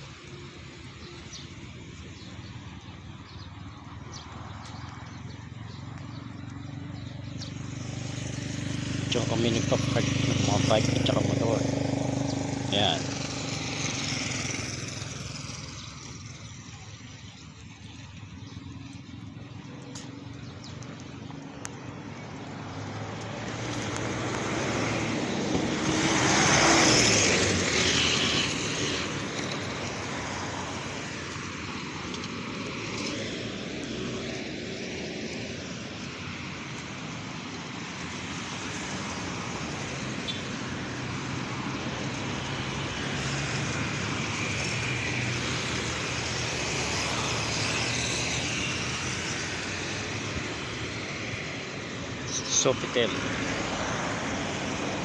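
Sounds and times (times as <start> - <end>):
passing traffic: 0.0 - 55.0
vehicle passing close: 4.1 - 55.0.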